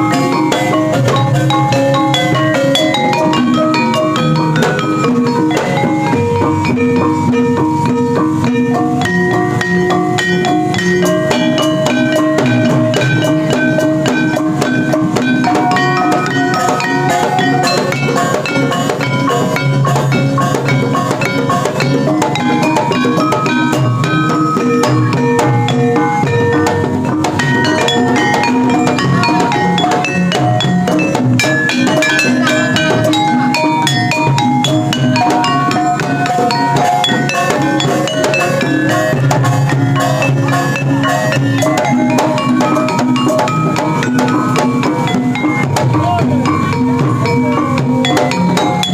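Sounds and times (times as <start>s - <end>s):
steady drum beat: 0.0s - 48.9s
struck metal-keyed notes: 0.0s - 48.9s.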